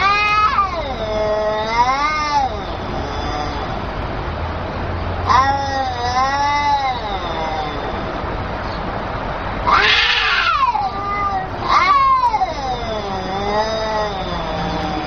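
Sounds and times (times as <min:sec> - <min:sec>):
cat meowing: 0:00.0 - 0:03.9, 0:05.2 - 0:08.3, 0:09.6 - 0:15.0.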